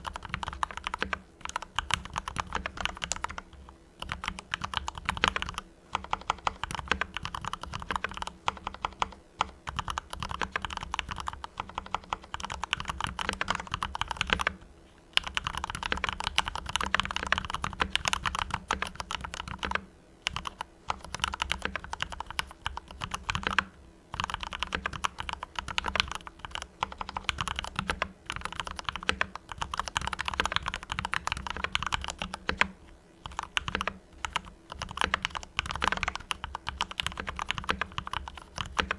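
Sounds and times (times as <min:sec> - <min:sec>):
typing on mechanical keyboard: 0:00.0 - 0:14.6, 0:15.2 - 0:38.9.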